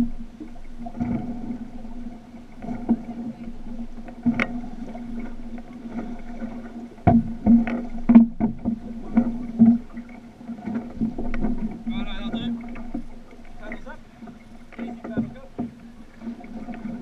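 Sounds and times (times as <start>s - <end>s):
water lapping against canoe hull: 0.0s - 17.0s.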